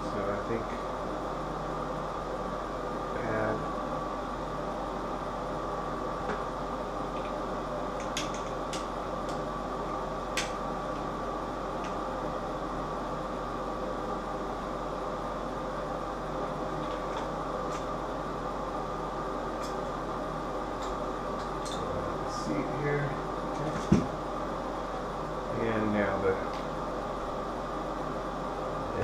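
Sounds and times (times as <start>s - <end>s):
mechanical hum with whine: 0.0s - 29.0s.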